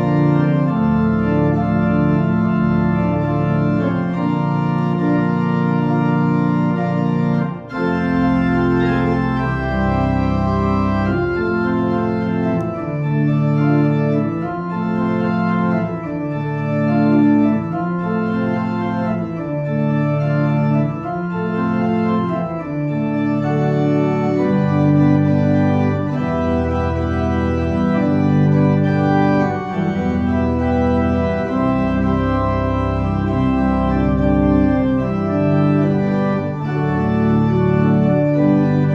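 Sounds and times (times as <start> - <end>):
organ playing slow chords: 0.0 - 38.9.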